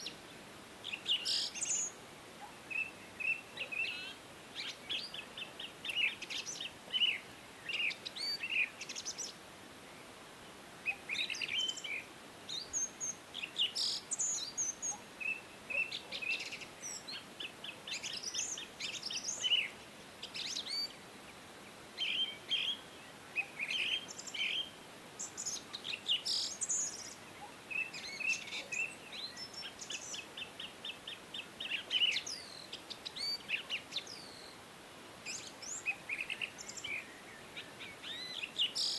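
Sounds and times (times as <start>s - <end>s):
small birds chirping: 0.0s - 10.2s, 10.8s - 38.9s.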